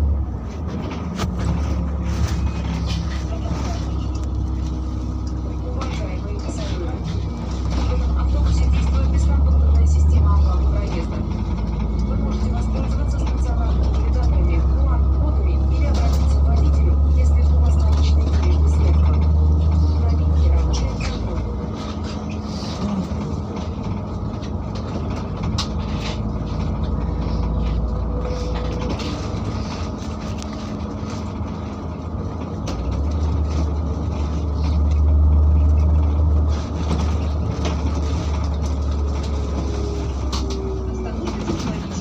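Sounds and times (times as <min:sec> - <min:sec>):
bus engine and road drone: 0:00.0 - 0:42.0.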